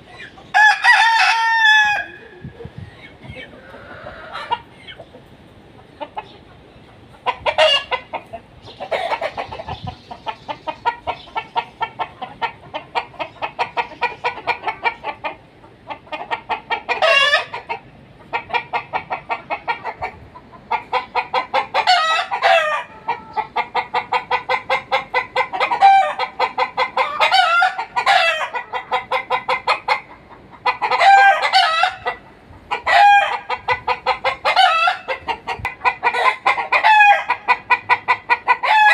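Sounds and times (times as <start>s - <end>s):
chickens clucking rapidly: 0.0s - 38.9s
chickens squawking: 0.0s - 38.9s.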